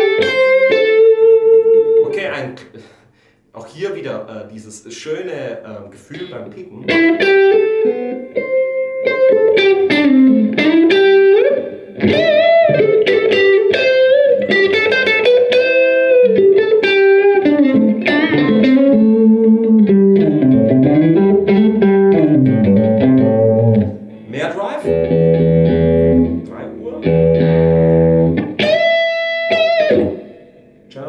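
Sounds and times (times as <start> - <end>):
crunchy electric guitar lead: 0.0 - 2.0, 6.2 - 30.8.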